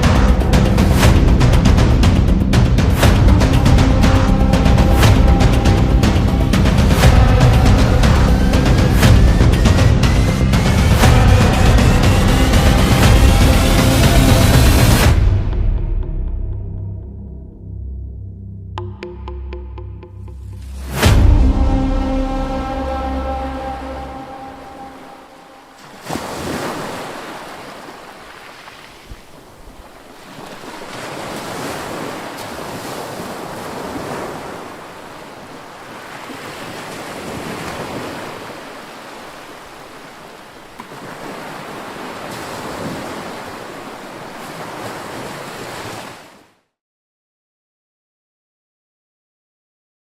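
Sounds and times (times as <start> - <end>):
ocean waves washing in: 0.0 - 15.8, 20.5 - 46.6.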